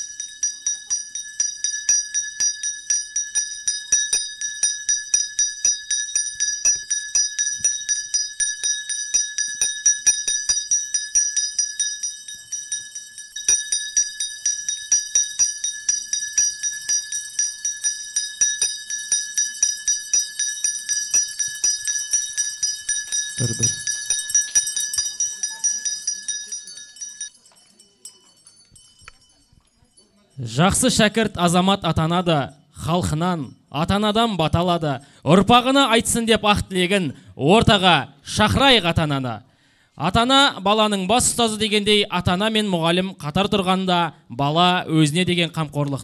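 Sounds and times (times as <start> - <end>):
handbells ringing: 0.0 - 46.0.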